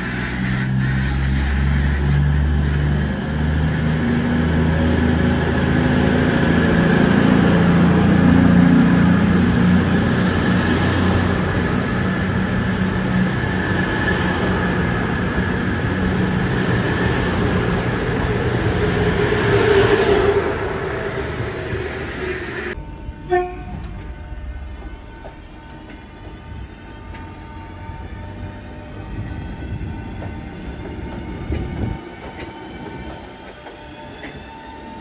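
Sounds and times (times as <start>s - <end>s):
low drone: 0.0s - 31.6s
train wheels rushing on rail: 0.0s - 35.0s.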